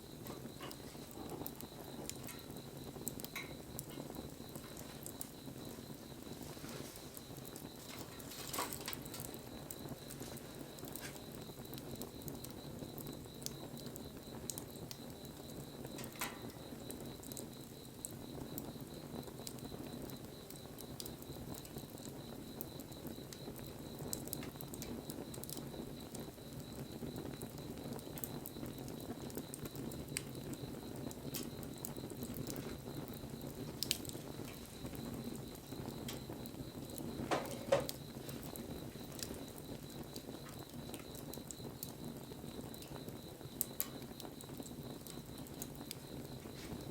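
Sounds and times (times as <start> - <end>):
wood fire rushing: 0.0 - 17.2, 17.8 - 46.9
fire crackles and pops: 0.0 - 46.9.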